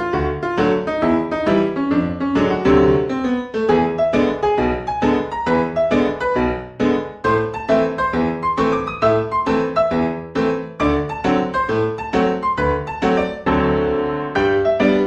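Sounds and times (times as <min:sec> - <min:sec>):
light piano melody: 0:00.0 - 0:15.0.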